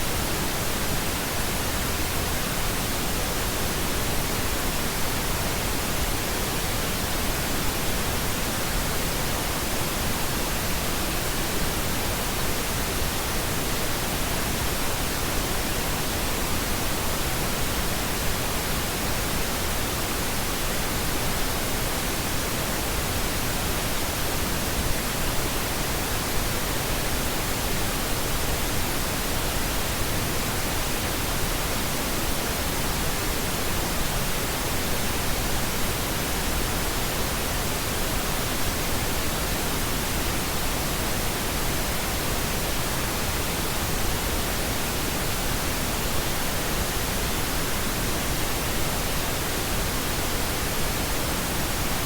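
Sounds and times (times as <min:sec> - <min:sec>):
pink noise hiss: 0:00.0 - 0:52.0.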